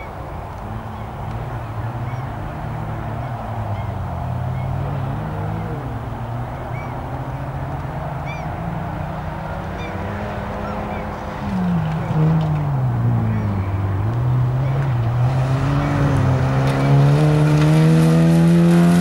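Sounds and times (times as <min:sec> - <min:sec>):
rally car engine running hard: 0:00.9 - 0:19.0.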